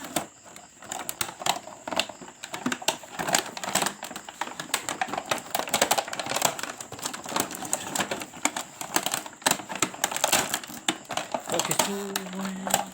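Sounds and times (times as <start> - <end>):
packaging being handled: 0.0 - 12.9
plastic toy clicking and rattling: 0.0 - 12.9.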